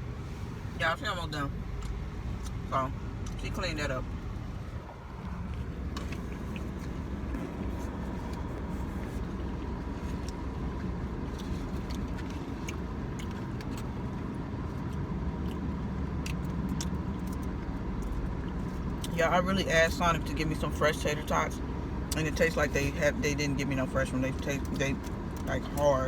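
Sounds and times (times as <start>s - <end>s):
car cabin low rumble: 0.0s - 26.0s.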